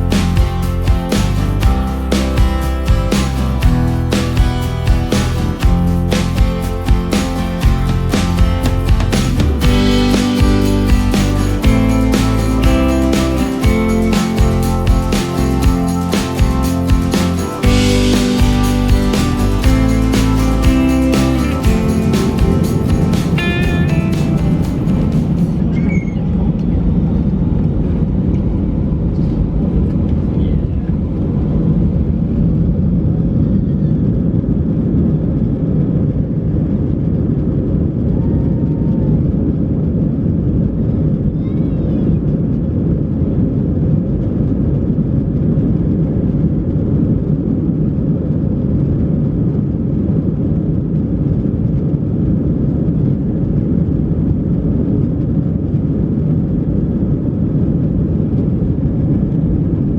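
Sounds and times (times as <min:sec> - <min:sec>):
airplane cabin engine roar: 0:00.0 - 0:59.9.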